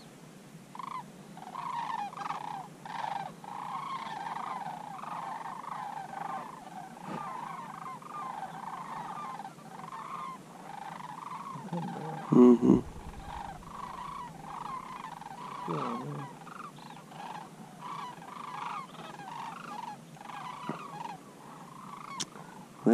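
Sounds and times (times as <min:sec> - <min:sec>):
cranes calling: 0:00.7 - 0:22.9.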